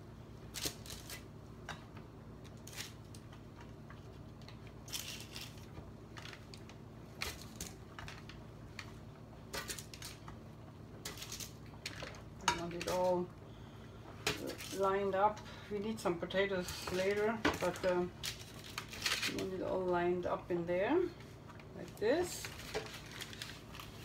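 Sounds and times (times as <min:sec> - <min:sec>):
low kitchen hum: 0:00.0 - 0:24.0.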